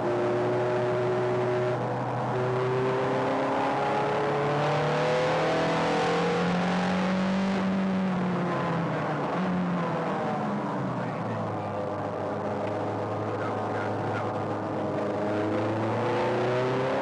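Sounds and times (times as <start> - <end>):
sports car engine in cabin: 0.0 - 17.0.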